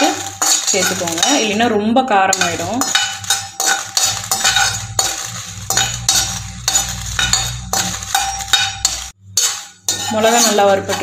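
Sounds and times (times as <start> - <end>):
metal spatula scraping a pan: 0.0 - 11.0.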